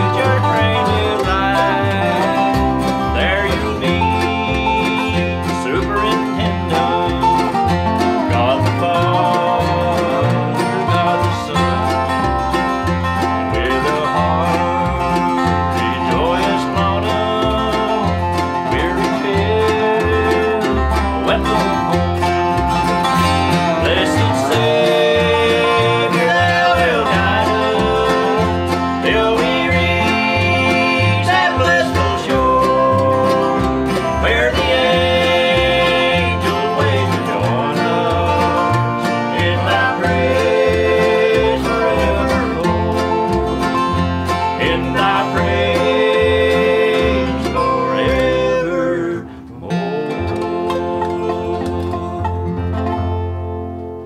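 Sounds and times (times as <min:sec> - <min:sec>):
upright bass steady beat: 0:00.0 - 0:47.6
acoustic guitar: 0:00.0 - 0:54.0
mandolin: 0:00.0 - 0:54.0
resonator guitar: 0:00.0 - 0:54.0.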